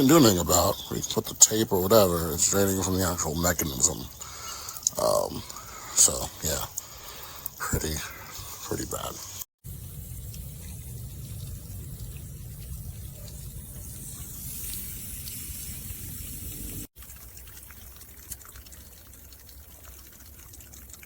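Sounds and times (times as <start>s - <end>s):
water hissing from hose connector: 0.0s - 16.9s.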